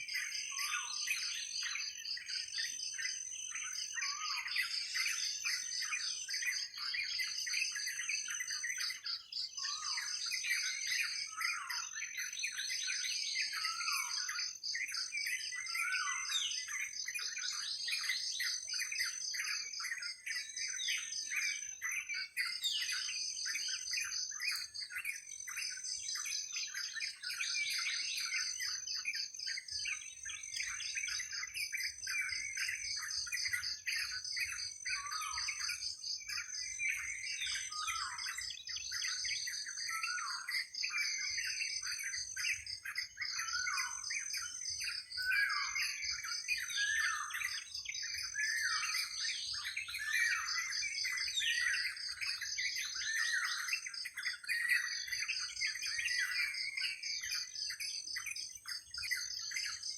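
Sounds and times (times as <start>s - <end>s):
birds chirping in chorus: 0.0s - 59.9s.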